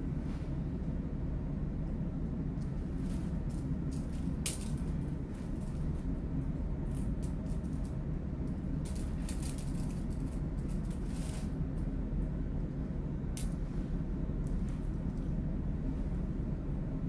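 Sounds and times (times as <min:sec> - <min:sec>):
ship machinery hum: 0:00.0 - 0:17.0.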